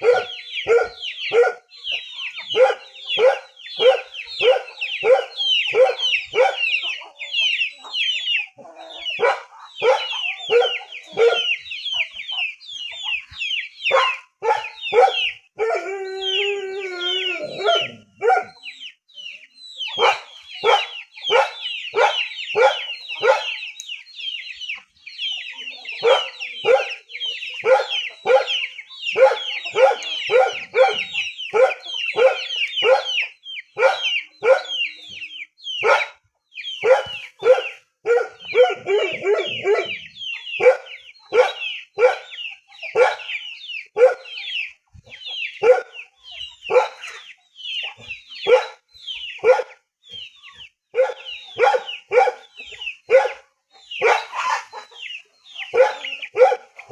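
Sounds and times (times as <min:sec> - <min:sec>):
dog barking high-pitched yelps: 0:00.0 - 0:07.2, 0:07.9 - 0:11.7, 0:13.8 - 0:18.8, 0:19.8 - 0:23.6, 0:25.9 - 0:35.2, 0:35.8 - 0:44.7, 0:45.3 - 0:49.8, 0:50.9 - 0:55.0, 0:55.6 - 0:56.9.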